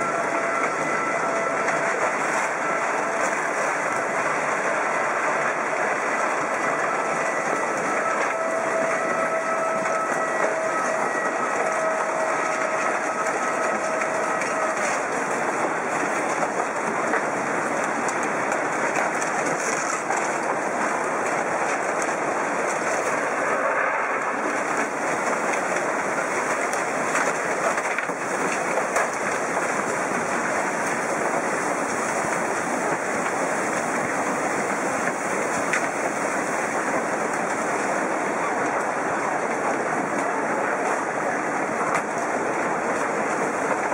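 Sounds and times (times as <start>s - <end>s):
rushing floodwater roar: 0.0s - 43.9s.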